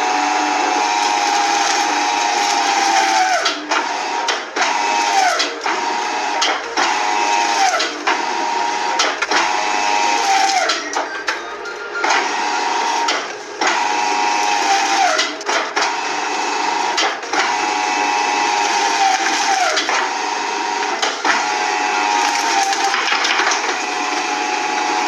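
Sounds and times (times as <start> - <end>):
shredding machine motor whine: 0.0 - 25.0.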